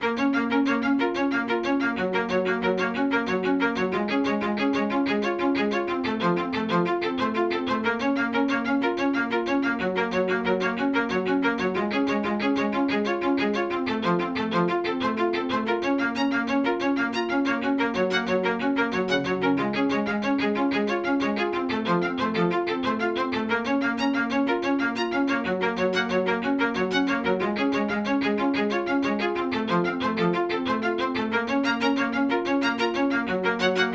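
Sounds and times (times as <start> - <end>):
bowed string instrument music: 0.0 - 33.9.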